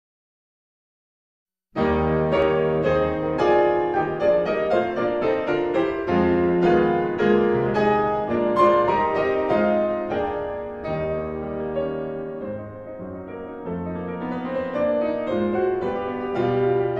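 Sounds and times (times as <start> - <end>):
piano music: 1.8 - 16.9.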